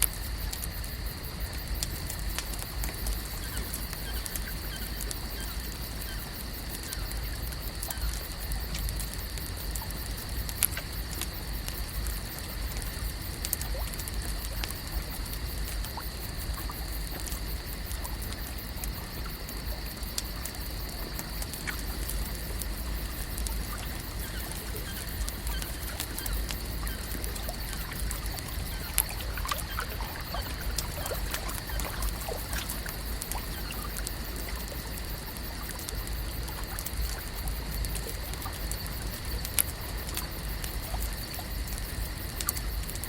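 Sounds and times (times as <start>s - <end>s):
small clicks and crackles: 0.0s - 43.0s.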